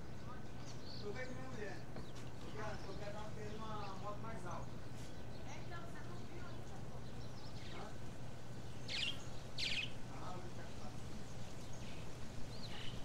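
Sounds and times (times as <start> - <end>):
songbird high calls: 0.0 - 10.4, 11.0 - 13.0
steady low hum: 0.0 - 13.0.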